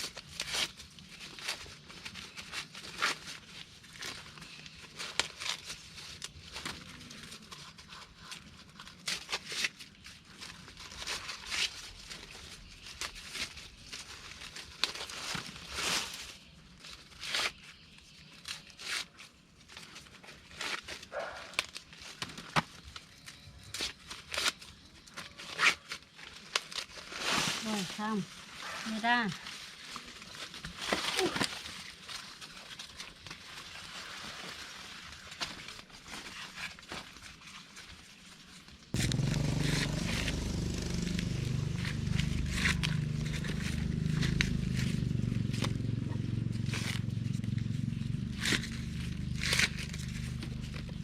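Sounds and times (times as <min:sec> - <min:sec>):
dry corn husks rustling and snapping: 0:00.0 - 0:51.0.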